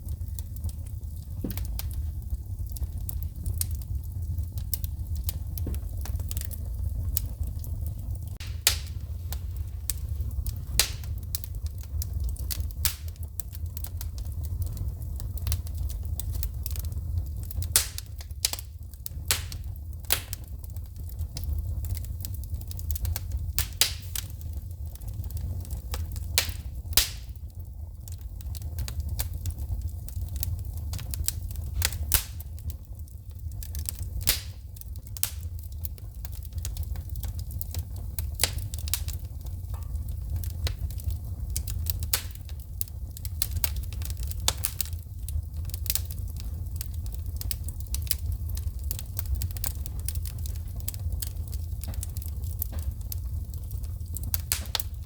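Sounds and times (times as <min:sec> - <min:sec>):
fire low rumble: 0:00.0 - 0:55.0
wood fire crackling and popping: 0:00.0 - 0:55.0.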